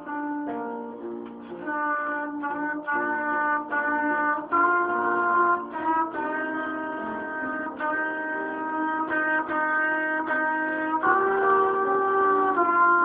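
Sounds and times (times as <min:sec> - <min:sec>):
piano accompaniment: 0:00.0 - 0:13.0
trumpet melody: 0:00.0 - 0:13.0.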